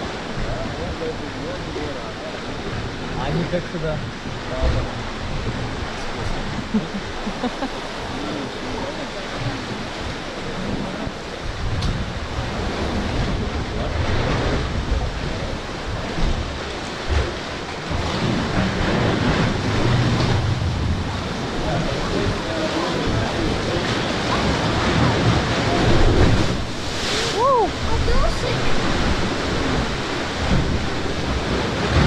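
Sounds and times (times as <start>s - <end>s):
waves washing against rocks: 0.0s - 32.0s
wind rumbling on microphone: 0.0s - 32.0s.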